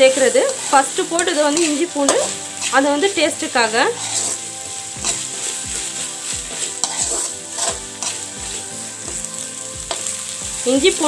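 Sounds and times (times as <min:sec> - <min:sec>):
metal spatula scraping a pan: 0:00.0 - 0:11.0
vegetables sizzling in a pan: 0:00.0 - 0:11.0.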